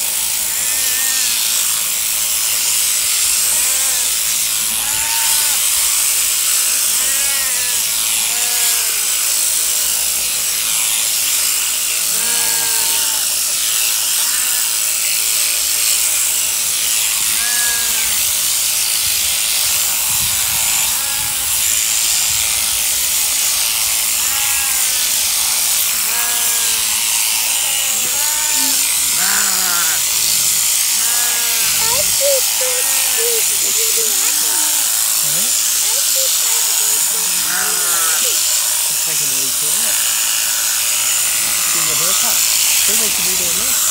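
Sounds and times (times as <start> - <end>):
sheep shearing handpiece buzzing: 0.0 - 43.9.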